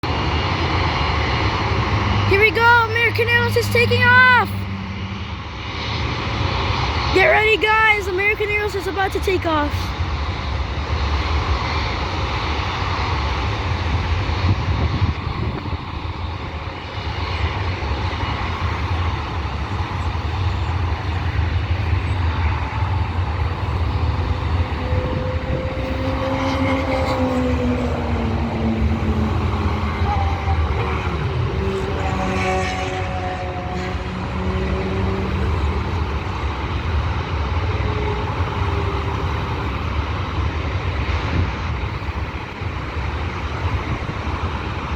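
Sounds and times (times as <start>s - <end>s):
engine whine gliding downward: 0.0s - 44.9s
jet engines rumbling: 0.0s - 44.9s.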